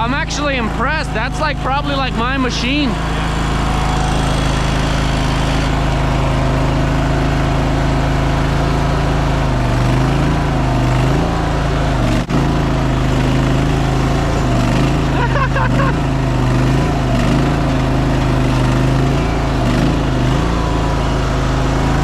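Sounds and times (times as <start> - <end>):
small gas engine at full throttle: 0.0 - 22.0.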